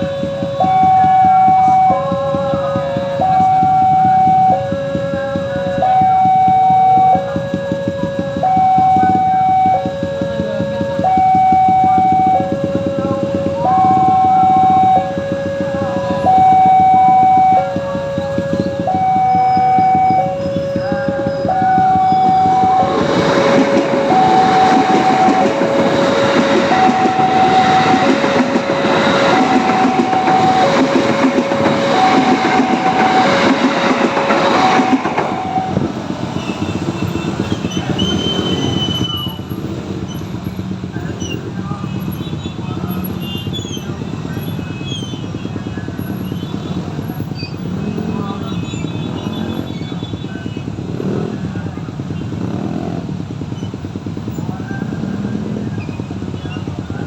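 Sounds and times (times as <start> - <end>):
two-note warning alarm: 0.0 - 51.3
street traffic: 0.0 - 57.0
train wheels rattling over rails: 0.0 - 57.0.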